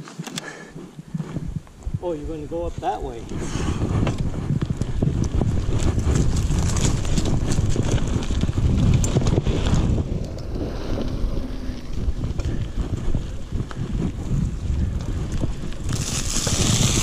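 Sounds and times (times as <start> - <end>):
wind buffeting microphone: 0.6 - 17.0
bike rattling over ground: 1.0 - 17.0.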